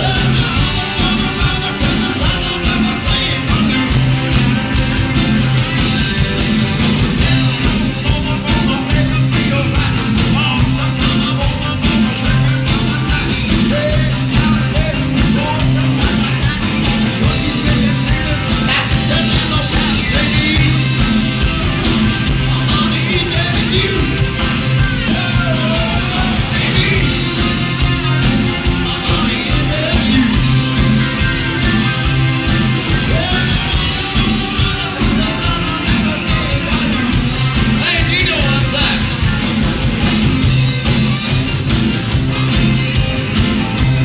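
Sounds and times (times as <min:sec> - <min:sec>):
male lead vocal: 0:00.0 - 0:04.8, 0:07.1 - 0:39.4
drums keeping a steady beat: 0:00.0 - 0:44.0
electric guitar: 0:00.0 - 0:44.0.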